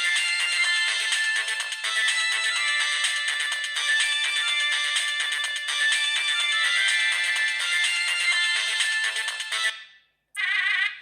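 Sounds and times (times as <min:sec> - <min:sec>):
mobile phone ringtone melody: 0:00.0 - 0:11.0.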